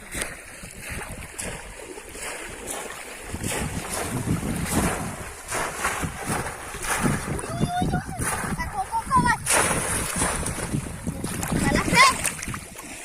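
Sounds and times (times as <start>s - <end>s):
water splashing in shallow water: 0.0s - 13.0s
wind buffeting microphone: 0.0s - 13.0s.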